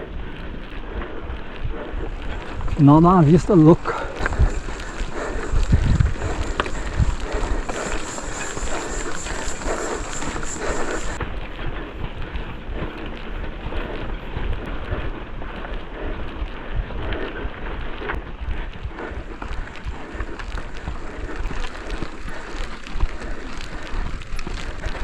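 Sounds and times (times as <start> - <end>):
mountain bike rolling rumble: 0.0 - 25.0
wind buffeting microphone: 0.0 - 25.0.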